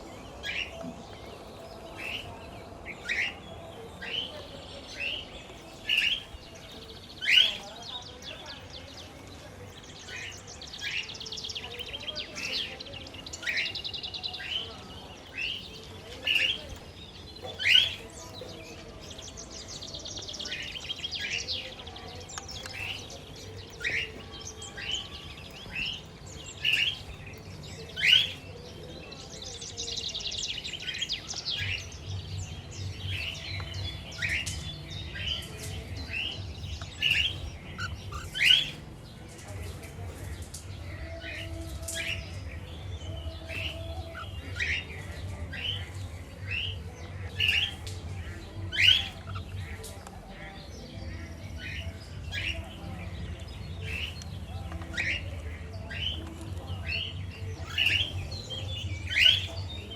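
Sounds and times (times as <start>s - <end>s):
budgies chattering warble: 0.0s - 59.9s.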